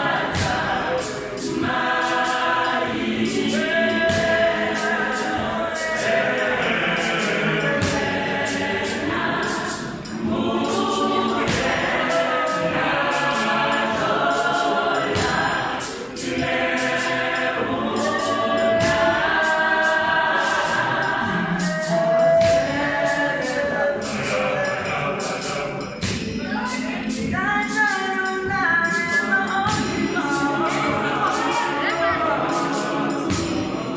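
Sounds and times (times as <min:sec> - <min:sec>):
choir singing in harmony: 0:00.0 - 0:33.9
percussion beat: 0:00.0 - 0:33.9.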